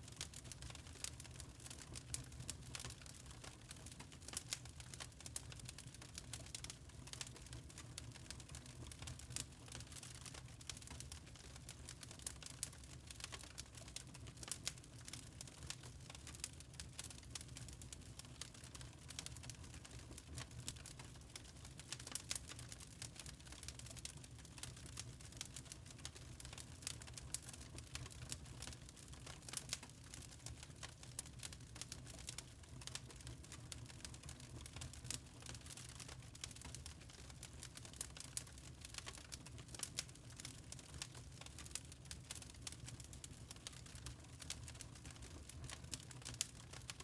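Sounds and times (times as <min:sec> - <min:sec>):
charcoal crackling and popping: 0:00.0 - 0:47.0.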